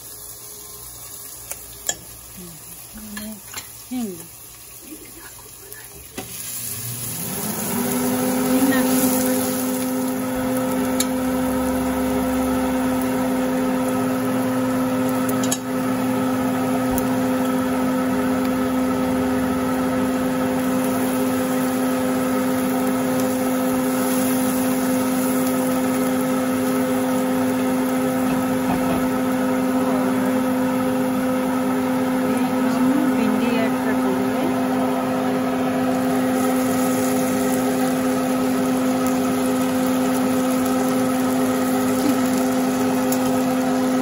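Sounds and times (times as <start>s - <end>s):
exhaust fan humming: 0.0s - 44.0s.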